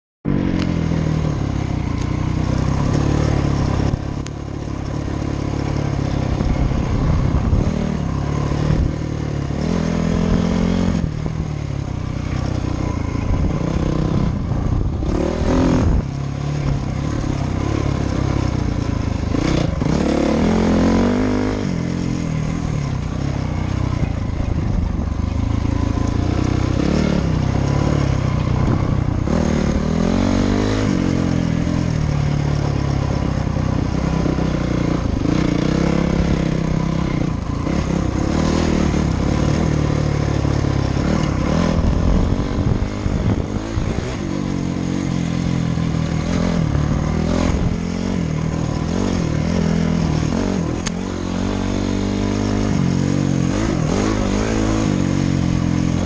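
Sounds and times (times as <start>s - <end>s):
dirt bike engine revving: 0.3s - 56.0s.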